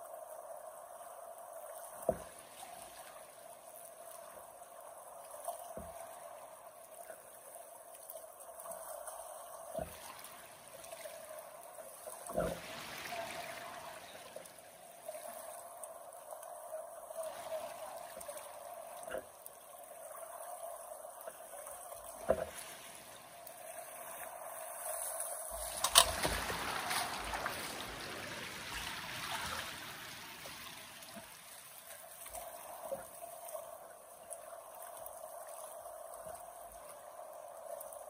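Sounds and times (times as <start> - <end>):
river water flowing: 0.0 - 38.0.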